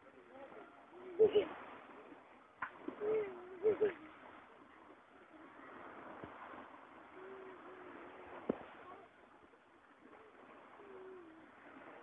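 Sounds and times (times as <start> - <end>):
small waves washing on beach: 0.0 - 12.0.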